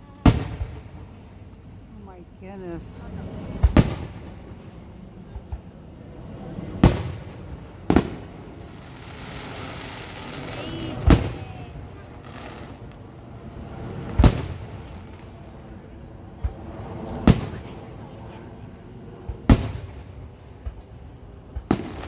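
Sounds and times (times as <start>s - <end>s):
fireworks bangs with echo: 0.0s - 2.1s, 2.8s - 22.0s.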